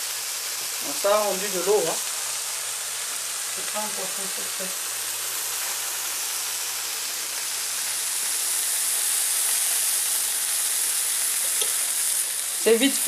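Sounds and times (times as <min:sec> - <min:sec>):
fish sizzling on a grill plate: 0:00.0 - 0:13.0
water hissing off as steam: 0:00.0 - 0:13.0.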